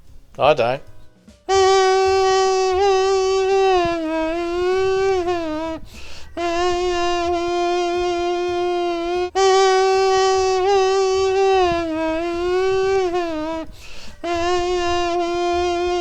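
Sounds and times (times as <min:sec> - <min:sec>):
droning note with overtones: 0:01.5 - 0:16.0.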